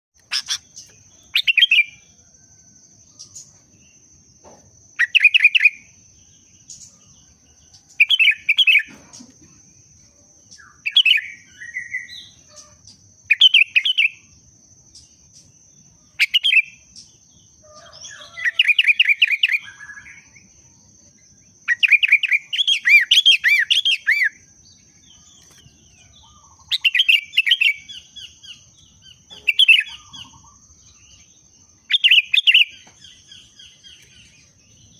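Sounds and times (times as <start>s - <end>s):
bulbul singing: 0.2s - 34.9s.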